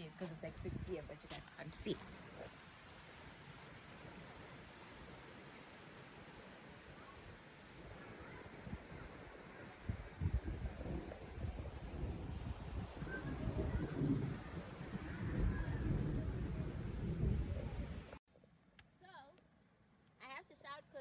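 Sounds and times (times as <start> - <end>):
outdoor background hiss: 0.0 - 15.2, 15.8 - 21.0
insects trilling: 0.0 - 18.2.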